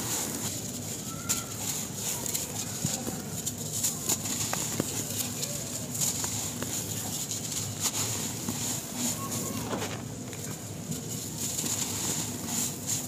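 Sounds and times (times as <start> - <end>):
sand grains pattering: 0.0 - 13.0.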